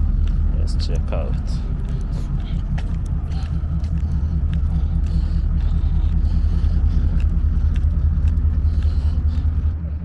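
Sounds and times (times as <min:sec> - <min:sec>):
diesel train engines idling: 0:00.0 - 0:10.0.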